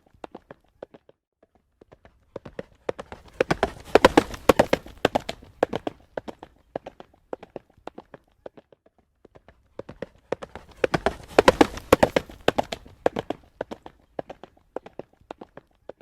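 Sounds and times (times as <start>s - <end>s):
horse hooves clip-clopping on road: 0.0s - 16.0s.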